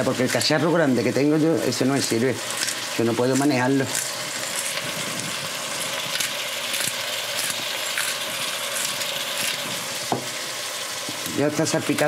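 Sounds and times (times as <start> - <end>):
pepper mill grinding: 0.0 - 11.3
food sizzling in a pot: 0.0 - 12.0.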